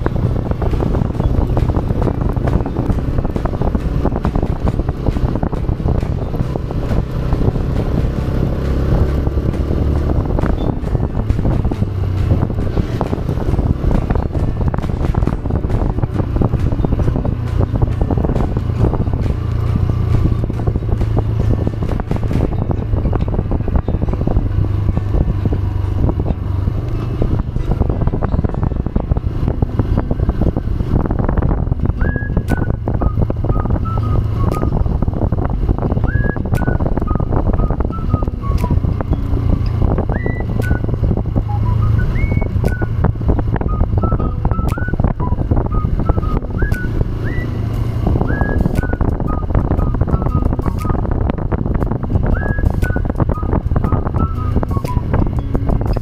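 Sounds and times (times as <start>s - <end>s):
motorcycle engine running at low revs: 0.0s - 56.0s
wind buffeting microphone: 0.0s - 56.0s.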